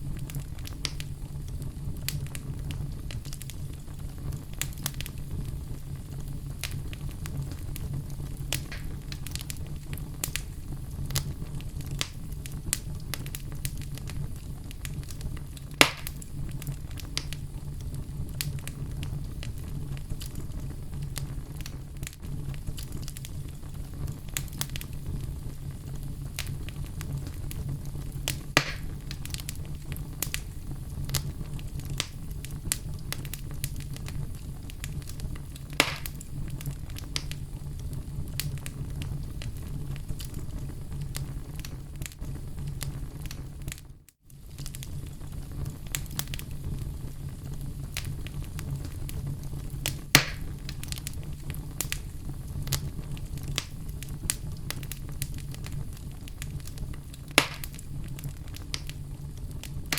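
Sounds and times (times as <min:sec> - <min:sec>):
fire crackling: 0:00.0 - 0:59.9
flames rumbling: 0:00.0 - 0:59.9
loud pops from burning logs: 0:00.0 - 0:59.9.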